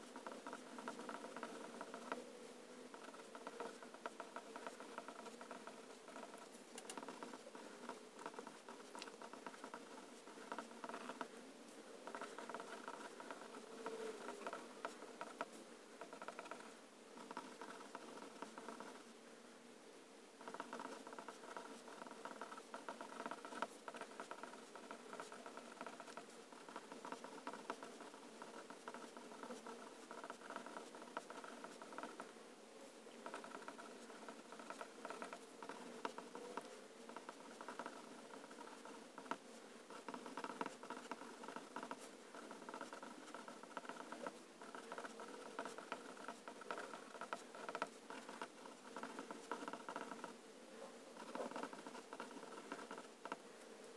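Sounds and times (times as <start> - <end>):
fountain pen scratching on paper: 0.0 - 2.2, 2.9 - 11.3, 12.0 - 19.0, 20.4 - 32.3, 33.2 - 50.4, 51.2 - 53.4.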